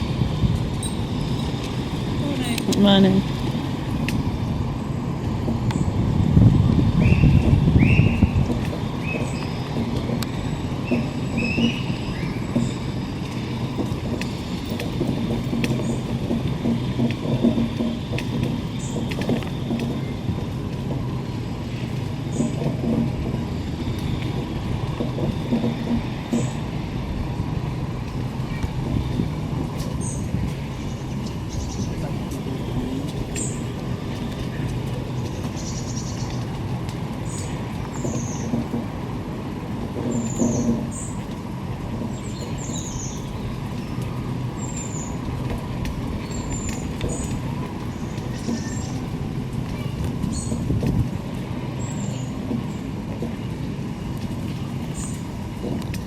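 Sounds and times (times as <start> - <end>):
wheelchair rolling on pavement: 0.0 - 56.0.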